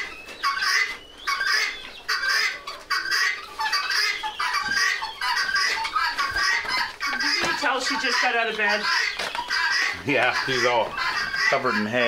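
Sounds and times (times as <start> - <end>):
poultry squawking: 0.0 - 12.0.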